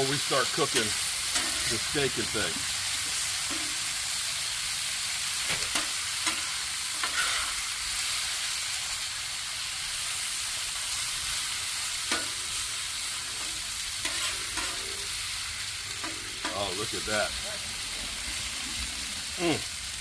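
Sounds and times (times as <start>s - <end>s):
potatoes sizzling in oil: 0.0s - 20.0s.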